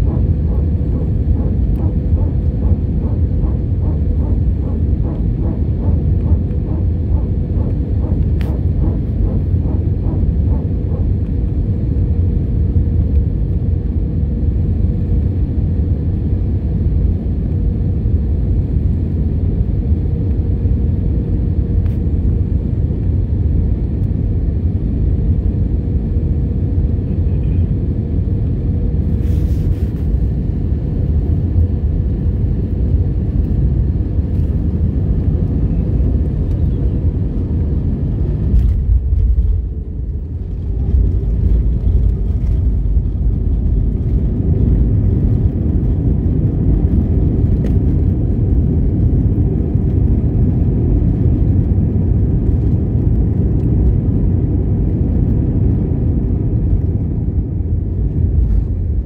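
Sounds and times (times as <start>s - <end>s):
faint hum: 0.0s - 59.0s
jet engines rumbling: 0.0s - 59.0s.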